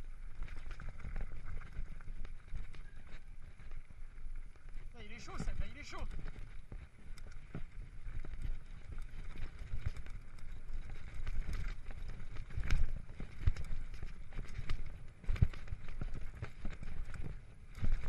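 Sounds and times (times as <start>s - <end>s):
bike clicking and rattling: 0.0s - 18.0s
tyres rumbling on dirt trail: 0.0s - 18.0s.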